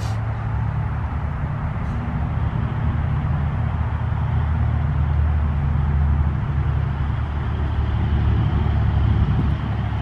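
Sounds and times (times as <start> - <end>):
low motor rumble: 0.0 - 10.0.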